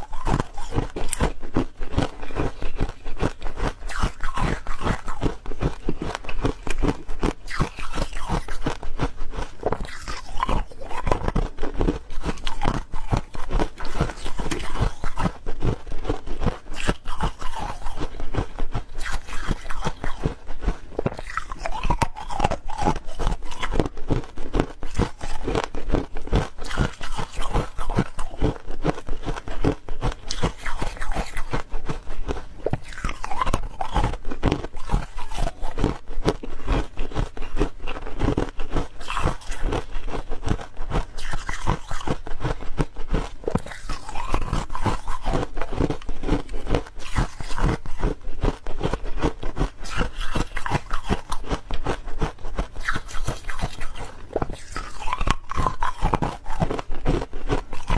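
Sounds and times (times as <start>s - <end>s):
ice being chewed with crunches: 0.0s - 57.9s.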